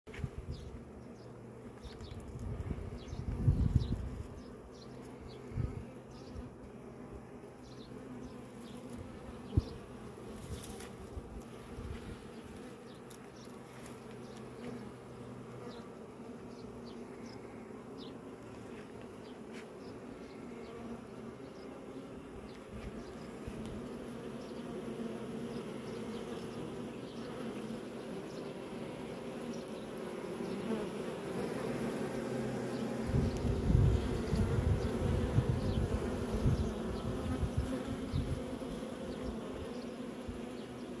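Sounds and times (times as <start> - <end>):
honeybees buzzing: 0.1 - 41.0.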